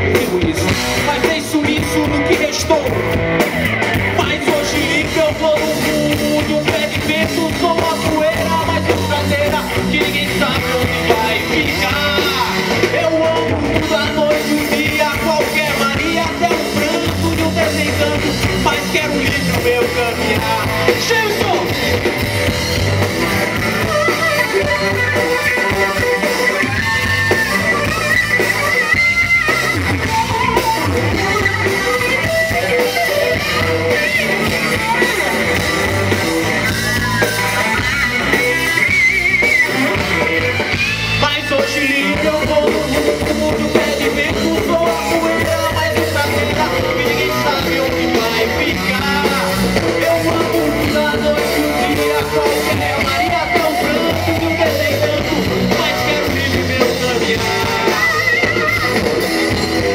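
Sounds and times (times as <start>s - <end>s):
electric guitar lead: 0.0s - 59.9s
live rock band playing: 0.0s - 59.9s.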